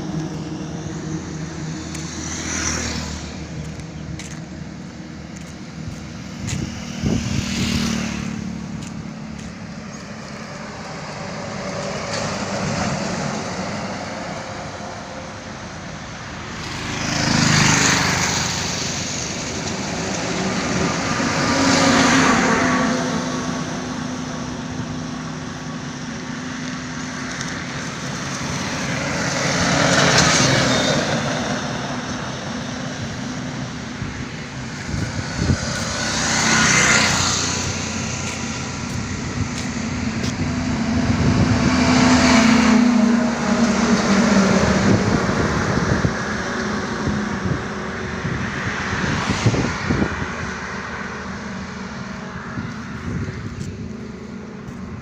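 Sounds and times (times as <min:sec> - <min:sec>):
steady engine drone: 0:00.0 - 0:55.0
vehicles passing on highway: 0:00.0 - 0:55.0.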